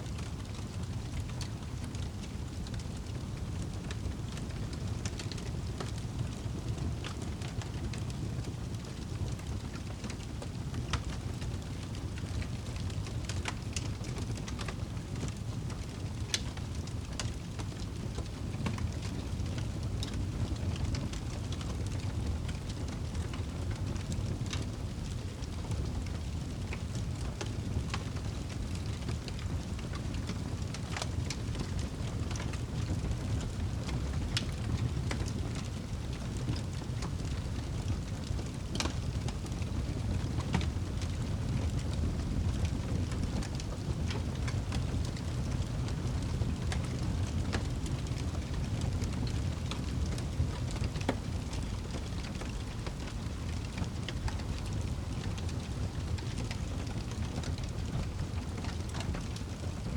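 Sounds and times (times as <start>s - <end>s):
fire crackling and popping: 0.1s - 59.9s
fire rumbling: 0.1s - 59.9s.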